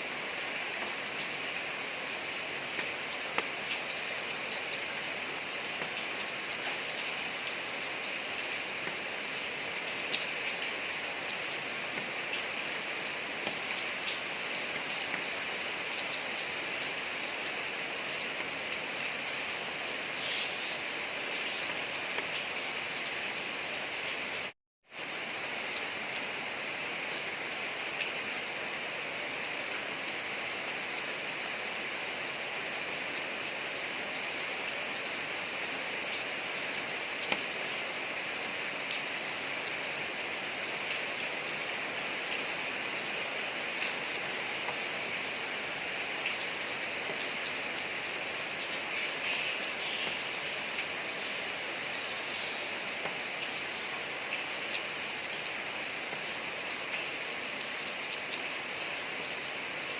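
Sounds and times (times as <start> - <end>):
rain falling on a street: 0.0 - 59.9.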